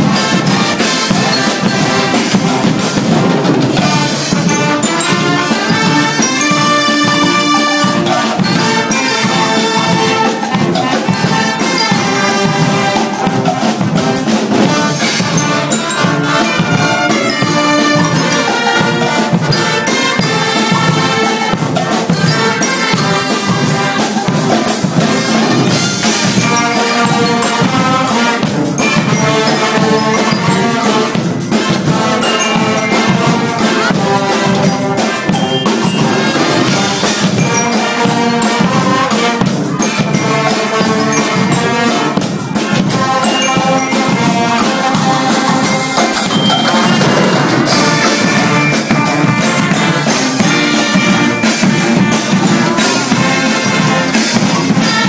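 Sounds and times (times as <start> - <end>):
brass instruments playing loudly: 0.0 - 55.0
drums and cymbals beat: 0.0 - 55.0.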